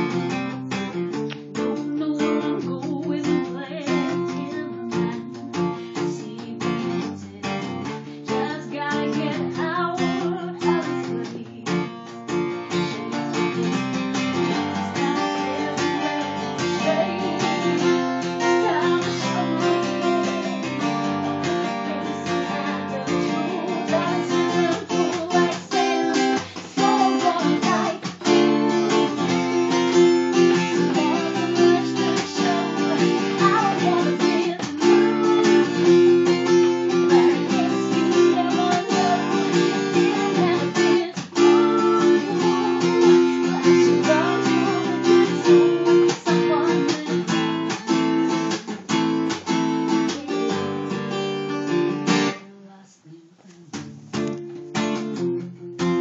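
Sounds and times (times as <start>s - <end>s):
acoustic guitar strumming chords: 0.0s - 52.5s, 53.8s - 56.0s
woman singing: 1.6s - 54.0s.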